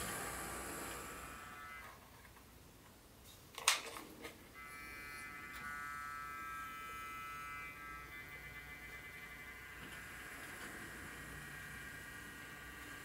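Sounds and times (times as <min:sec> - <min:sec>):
model train motor whining: 0:00.0 - 0:02.0, 0:04.6 - 0:13.0.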